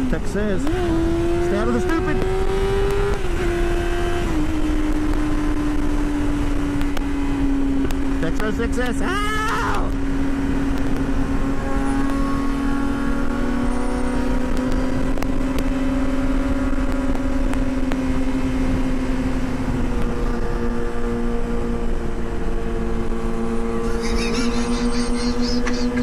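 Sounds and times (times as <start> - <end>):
wind rumble on microphone: 0.0 - 8.5, 9.1 - 24.8
motorcycle engine cruising: 0.0 - 26.0.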